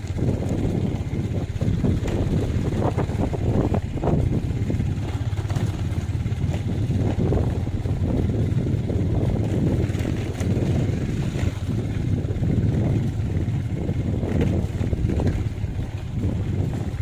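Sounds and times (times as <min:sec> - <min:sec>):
vehicle engine rumbling: 0:00.0 - 0:17.0
wind buffeting microphone: 0:00.0 - 0:17.0.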